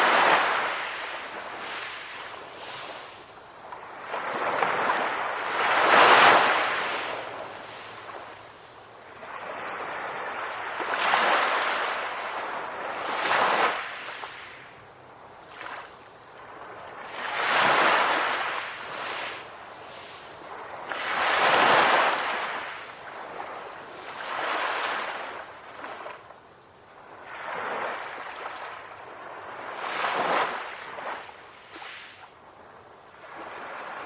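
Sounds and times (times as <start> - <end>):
ocean waves breaking on shore: 0.0 - 34.0.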